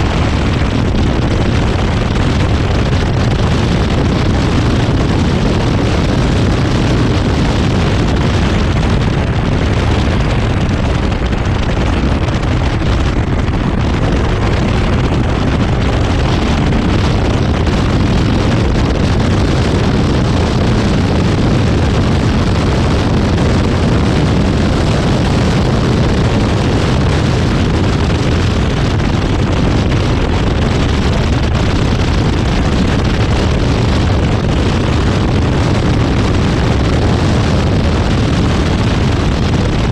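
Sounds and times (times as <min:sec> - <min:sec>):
car engine running hard: 0:00.0 - 0:39.9
wind buffeting microphone: 0:00.0 - 0:39.9.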